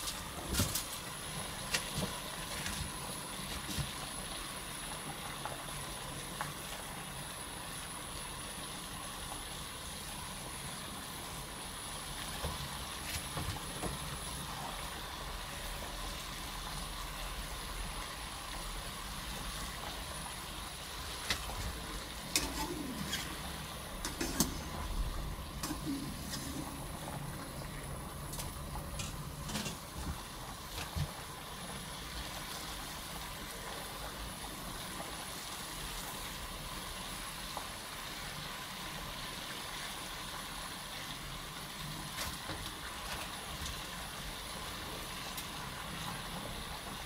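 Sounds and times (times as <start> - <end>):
water boiling in a pot: 0.0 - 47.0.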